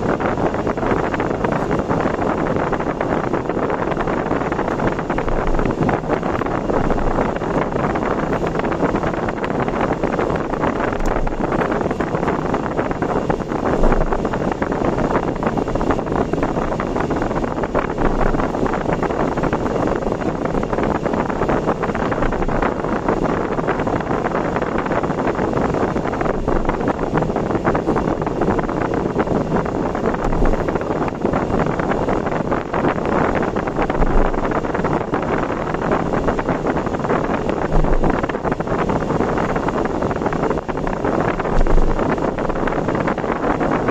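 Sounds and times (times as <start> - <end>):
tyres rushing on road: 0.0 - 43.9
wind rushing past car: 0.0 - 43.9.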